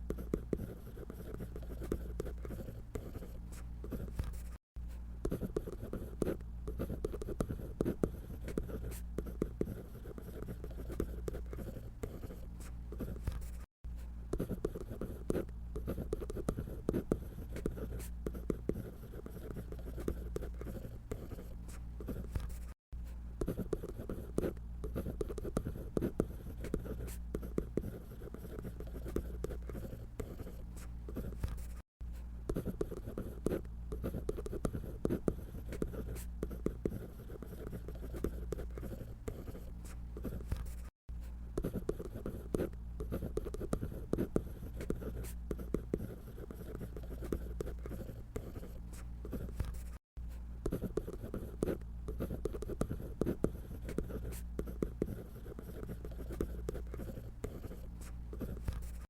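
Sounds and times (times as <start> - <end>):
pencil scratching on paper: 0.0 - 4.6, 5.2 - 13.7, 14.3 - 22.8, 23.4 - 40.9, 41.6 - 59.0.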